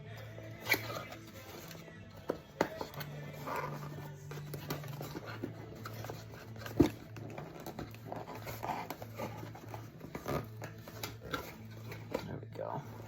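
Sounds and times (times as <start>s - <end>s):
cardboard box rustling: 0.5s - 13.0s.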